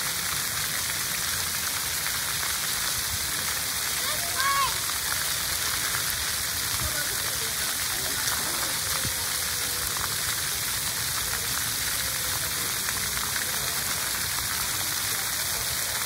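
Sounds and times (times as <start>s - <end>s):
water jets spraying onto concrete: 0.0s - 16.0s.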